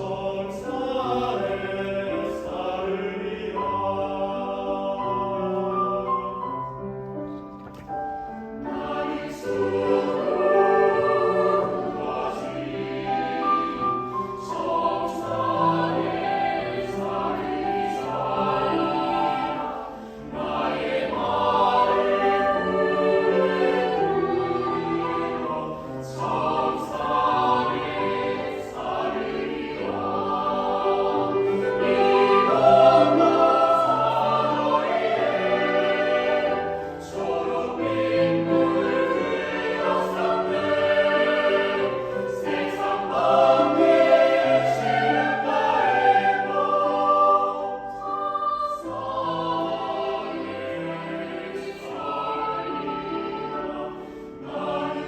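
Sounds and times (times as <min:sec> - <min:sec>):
choir singing sustained chords: 0:00.0 - 0:06.8, 0:07.9 - 0:55.0.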